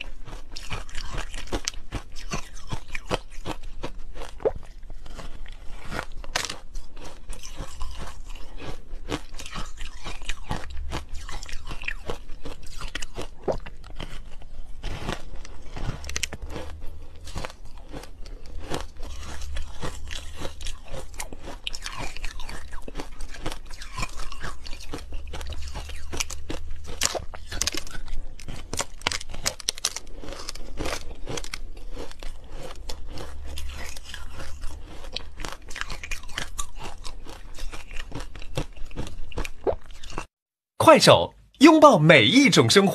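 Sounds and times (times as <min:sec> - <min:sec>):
ice crunching when chewed: 0:00.0 - 0:40.3.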